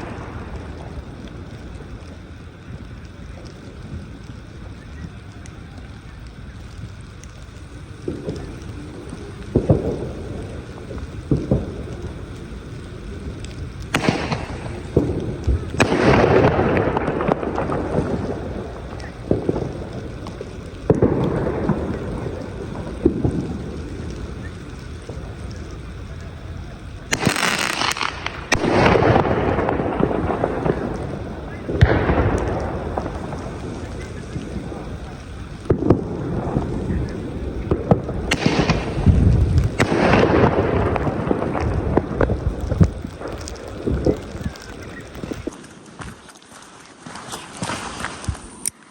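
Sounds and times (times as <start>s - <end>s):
fireworks sharp bangs: 0.0s - 45.7s
fireworks crackle and rumble: 0.0s - 48.9s.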